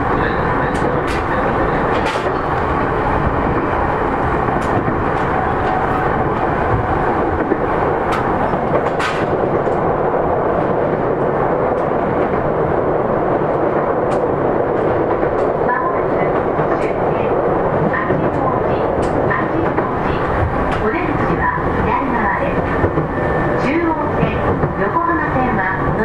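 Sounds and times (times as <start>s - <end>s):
wheels rumbling on rail: 0.0s - 26.0s.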